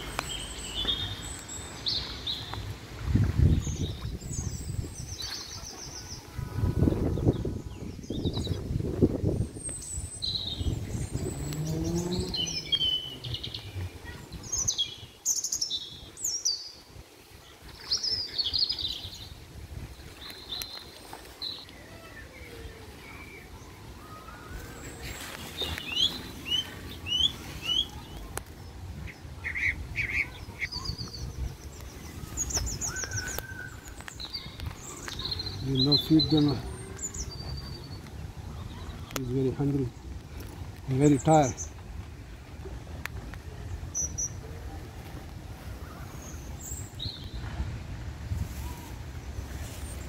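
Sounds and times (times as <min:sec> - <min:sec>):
birds chirping: 0:00.0 - 0:47.8.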